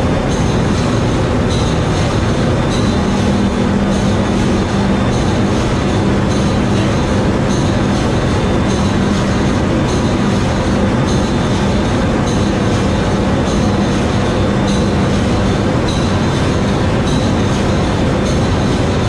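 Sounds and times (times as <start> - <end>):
ship diesel engine running: 0.0 - 19.0.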